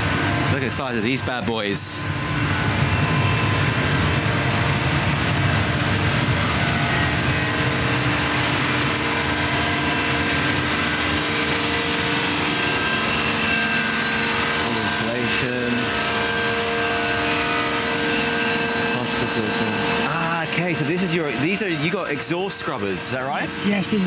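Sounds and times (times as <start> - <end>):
engine room machinery drone: 0.0 - 24.0.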